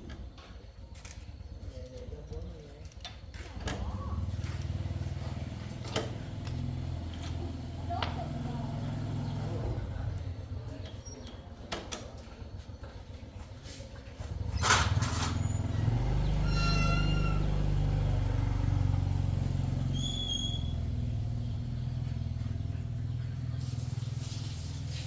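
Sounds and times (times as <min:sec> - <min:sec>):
small motorcycle engine idling: 0:00.2 - 0:11.4, 0:12.2 - 0:25.0.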